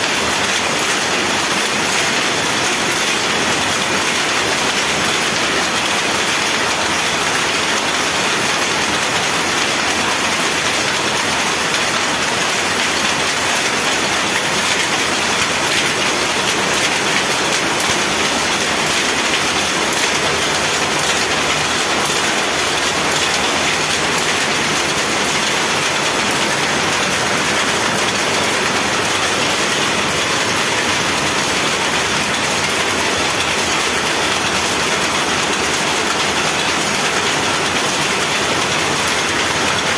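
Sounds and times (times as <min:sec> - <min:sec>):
power loom clattering: 0:00.0 - 0:39.9.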